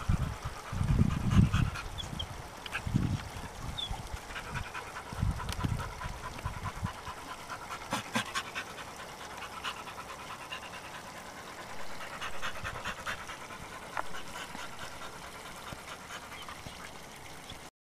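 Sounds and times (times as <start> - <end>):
dogs panting rapidly: 0.0 - 17.4.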